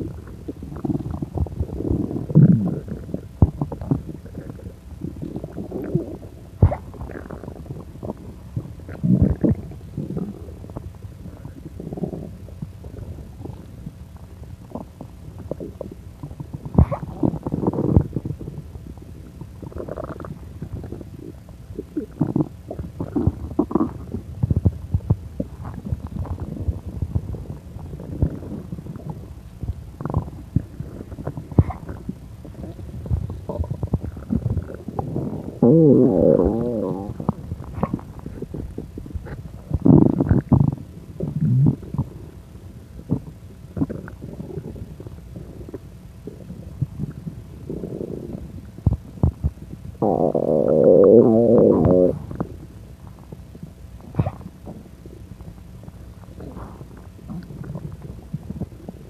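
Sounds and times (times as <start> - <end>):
stomach gurgling: 0.0 - 59.0.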